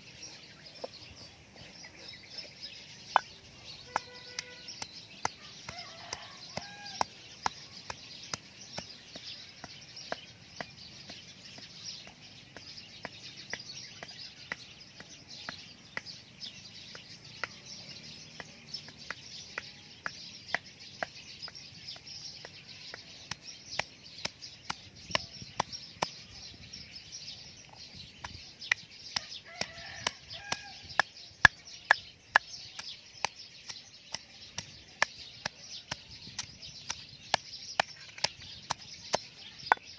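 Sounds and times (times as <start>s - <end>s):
pestle pounding in stone mortar: 0.0s - 26.6s, 27.6s - 39.9s.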